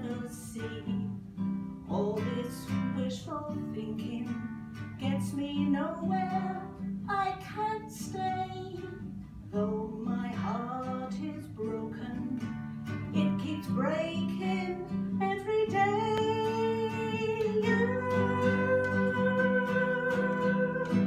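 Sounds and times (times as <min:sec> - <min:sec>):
woman singing: 0:00.0 - 0:01.2, 0:01.8 - 0:21.0
strummed acoustic guitar: 0:00.0 - 0:21.0.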